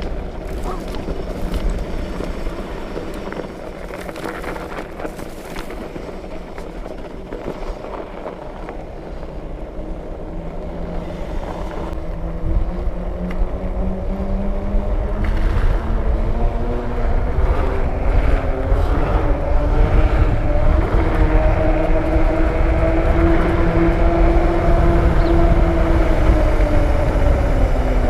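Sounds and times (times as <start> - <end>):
knobby bike tyres rolling: 0.0 - 28.0
wind noise on microphone: 0.0 - 28.0.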